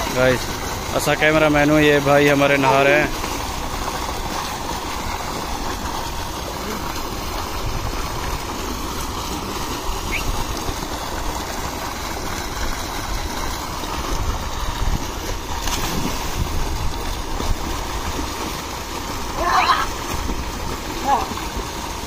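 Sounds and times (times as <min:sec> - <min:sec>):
water gushing into tank: 0:00.0 - 0:22.0.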